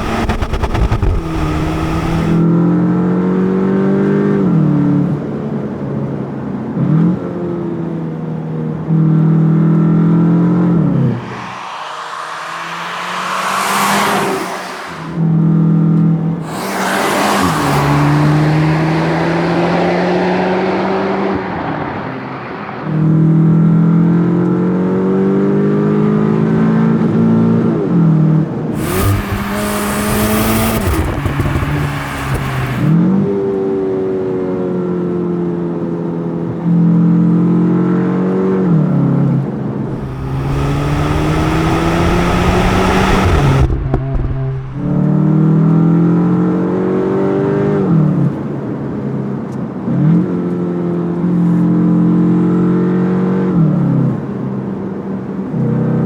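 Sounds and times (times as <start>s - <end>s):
car engine revving through gears: 0.0s - 5.2s, 6.7s - 34.1s, 34.8s - 54.4s.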